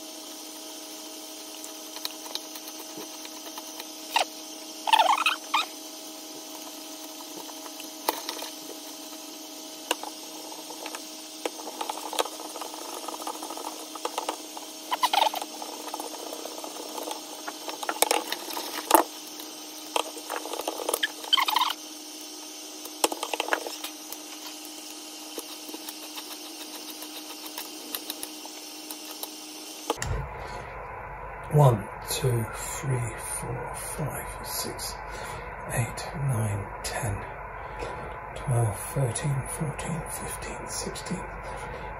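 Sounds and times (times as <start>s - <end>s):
steady hum: 0.0s - 41.9s.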